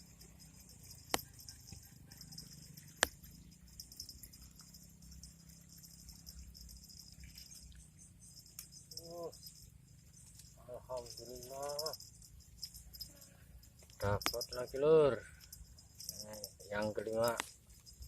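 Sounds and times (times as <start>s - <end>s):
high-pitched insect chirring: 0.0s - 18.0s.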